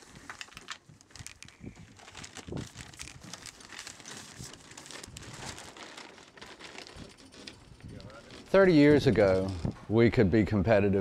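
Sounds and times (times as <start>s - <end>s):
sailcloth crinkling: 0.0s - 10.0s.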